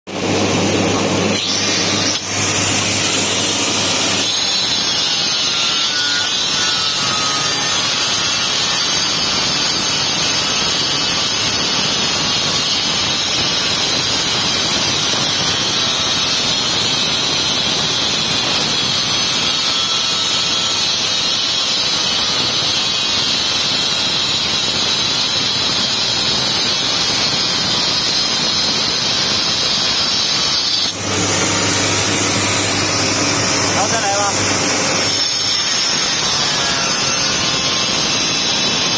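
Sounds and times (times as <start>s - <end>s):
stone cutter grinding granite: 0.2s - 38.9s.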